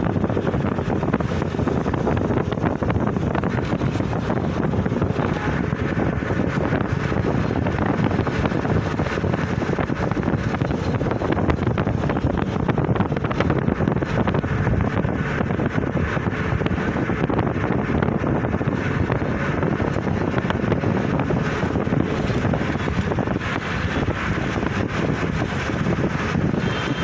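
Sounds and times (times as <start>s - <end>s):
road traffic: 0.0s - 27.0s
wind rumble on microphone: 0.0s - 27.0s.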